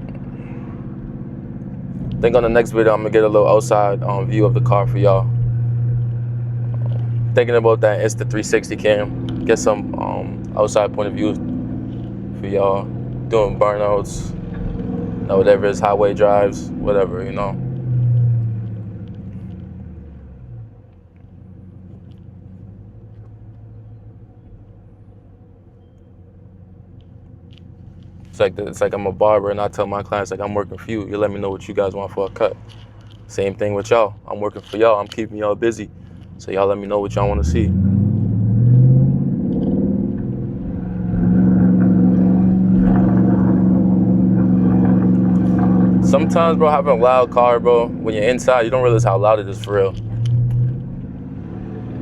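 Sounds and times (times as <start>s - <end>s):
car engine and exhaust droning: 0.0s - 52.0s.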